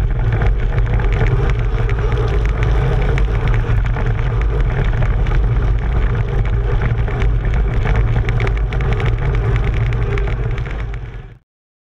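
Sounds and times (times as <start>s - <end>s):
studded tyres rolling over snow: 0.0s - 11.4s.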